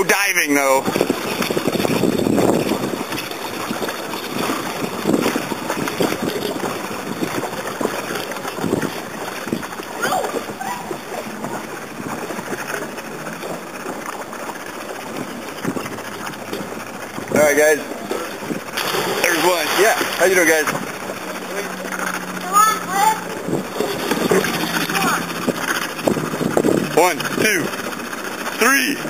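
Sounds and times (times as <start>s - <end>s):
water lapping: 0.0s - 29.0s
wind buffeting microphone: 0.0s - 29.0s.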